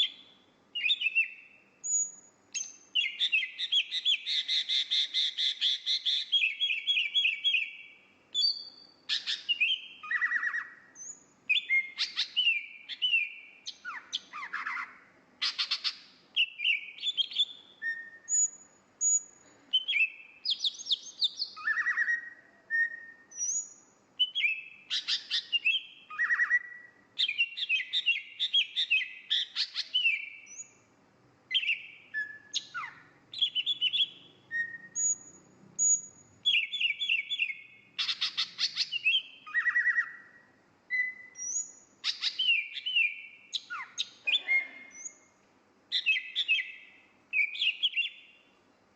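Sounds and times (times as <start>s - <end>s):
bird singing whistled phrases: 0.0s - 30.8s, 31.5s - 45.3s, 45.9s - 48.4s.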